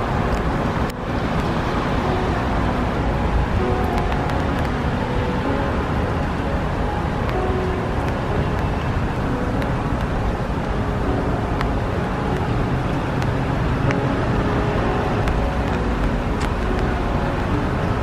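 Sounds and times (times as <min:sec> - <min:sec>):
traffic rumble: 0:00.0 - 0:18.0
wind: 0:00.0 - 0:18.0.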